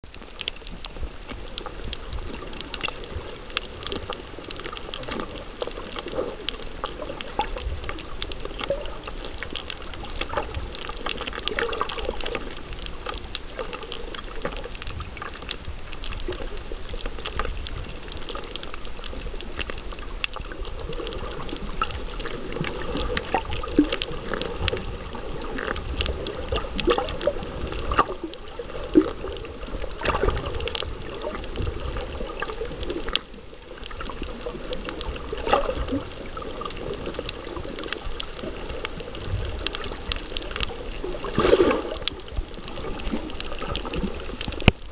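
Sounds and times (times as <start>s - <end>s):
small crackles and clicks: 0.0s - 44.9s
underwater water noise: 0.0s - 44.9s.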